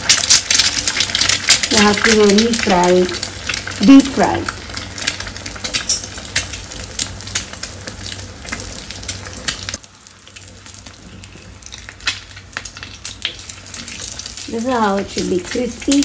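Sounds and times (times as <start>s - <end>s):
egg sizzling in hot oil: 0.0s - 16.0s.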